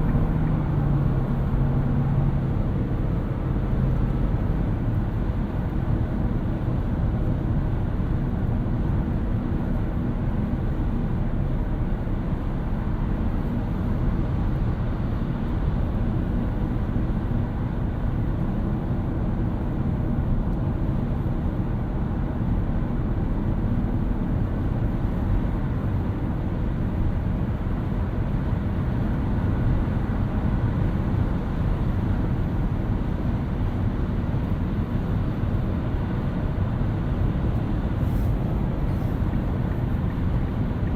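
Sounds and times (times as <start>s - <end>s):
road and tyre noise: 0.0s - 40.9s.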